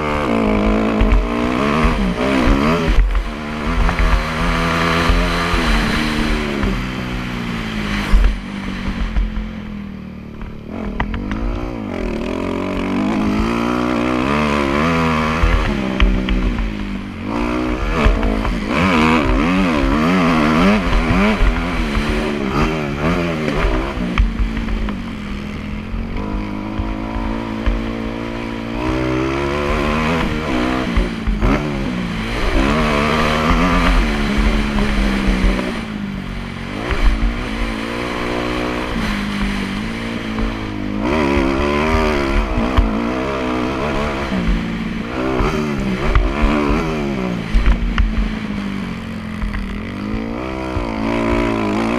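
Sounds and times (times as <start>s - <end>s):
motocross bike engine revving: 0.0s - 51.9s.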